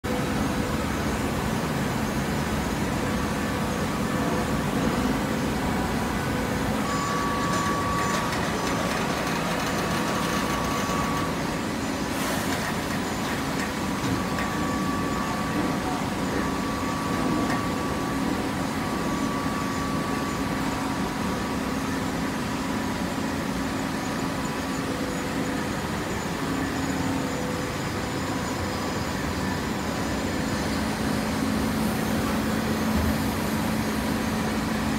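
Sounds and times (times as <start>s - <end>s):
baler machine drone: 0.0s - 34.9s
high mechanical whine: 0.1s - 34.9s.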